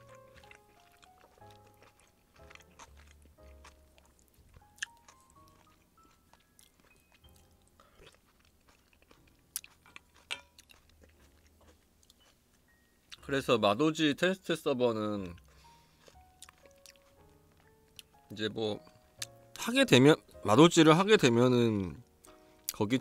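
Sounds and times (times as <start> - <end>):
chewing and crunching food: 0.0 - 13.6, 14.7 - 23.0
soft background music: 0.0 - 23.0.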